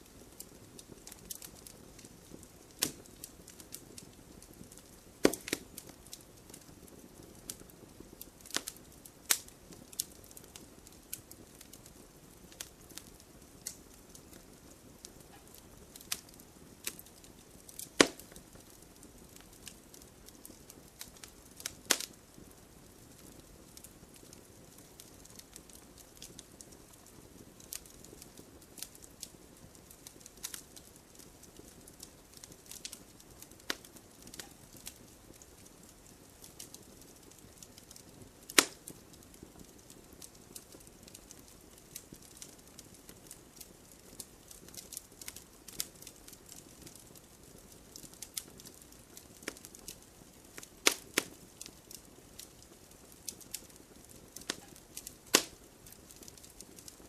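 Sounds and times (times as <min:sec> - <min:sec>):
sharp snaps and pops: 0:00.0 - 0:22.5, 0:23.1 - 0:57.0
campfire crackling: 0:00.0 - 0:57.0
hiss of burning: 0:00.0 - 0:57.0.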